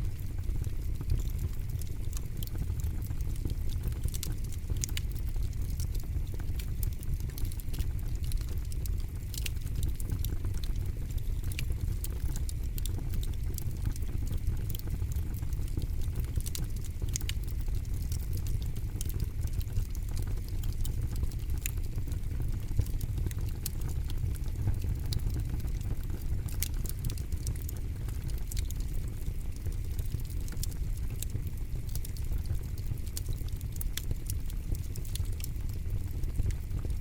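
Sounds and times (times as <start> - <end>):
campfire crackling and popping: 0.0 - 37.0
low steady fire rumble: 0.0 - 37.0.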